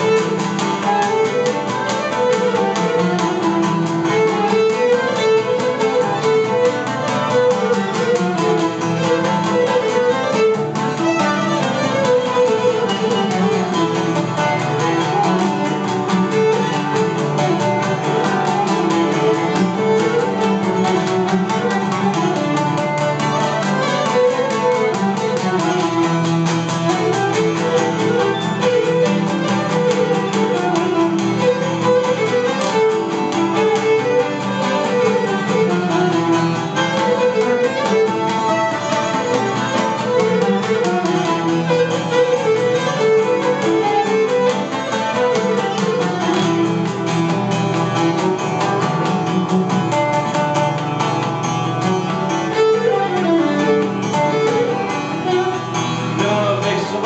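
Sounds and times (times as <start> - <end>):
bowed string melody: 0.0 - 57.0
plucked lute: 0.0 - 57.0.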